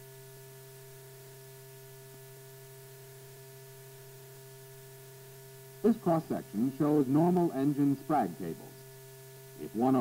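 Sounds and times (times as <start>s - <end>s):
electrical hum: 0.0s - 10.0s
faint hiss: 0.0s - 10.0s.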